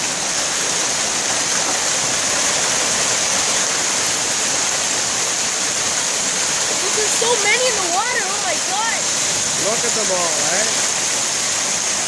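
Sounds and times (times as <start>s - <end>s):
hail pelting water: 0.0s - 12.0s.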